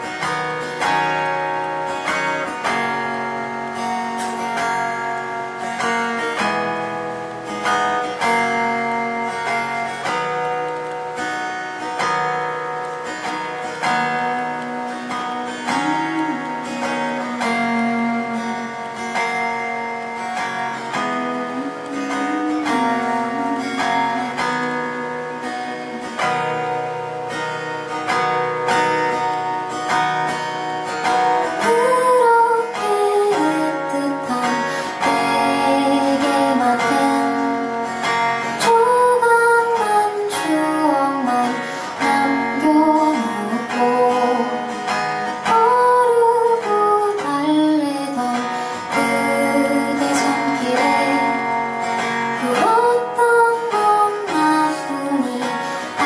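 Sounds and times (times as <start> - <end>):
woman singing: 0.0 - 10.4, 12.8 - 56.0
acoustic guitar strummed and picked: 0.0 - 56.0.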